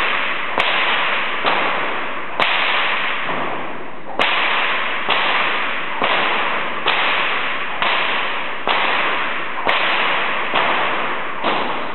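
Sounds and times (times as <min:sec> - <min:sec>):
bullwhip cracking: 0:00.0 - 0:11.9.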